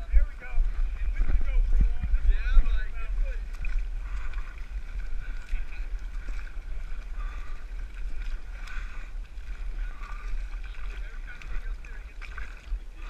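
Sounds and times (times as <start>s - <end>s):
muddy water sloshing and splashing: 0.0s - 13.0s
steady low rumble: 0.0s - 13.0s.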